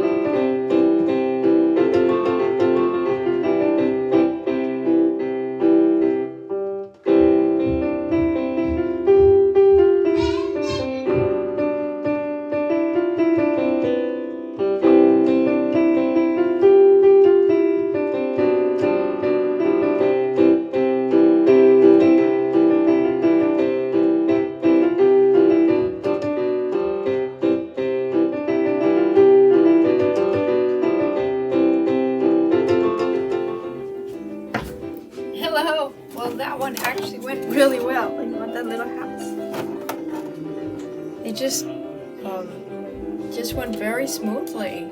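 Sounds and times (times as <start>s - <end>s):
piano music: 0.0s - 44.9s.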